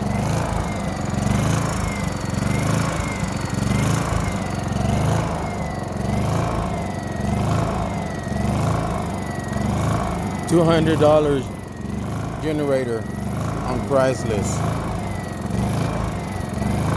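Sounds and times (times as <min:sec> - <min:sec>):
generator engine running: 0:00.0 - 0:16.9.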